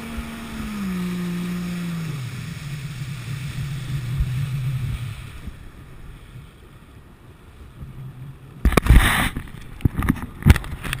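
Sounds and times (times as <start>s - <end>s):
jet ski engine running: 0.0s - 11.0s
water washing around hull: 0.0s - 11.0s.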